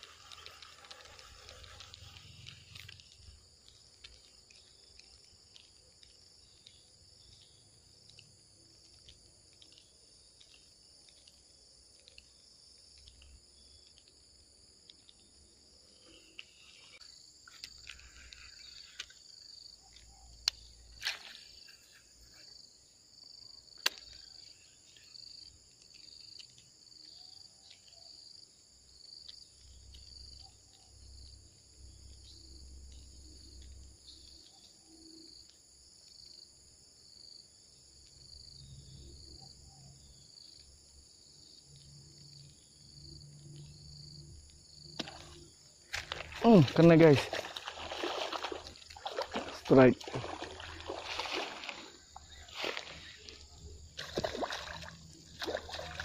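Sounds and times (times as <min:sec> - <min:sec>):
high-pitched insect chorus: 0:00.0 - 0:56.0
pulsing insect call: 0:00.0 - 0:56.0.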